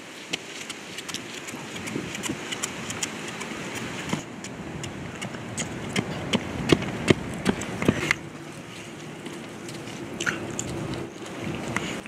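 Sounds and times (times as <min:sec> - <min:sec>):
running footsteps on concrete: 0:00.0 - 0:11.9.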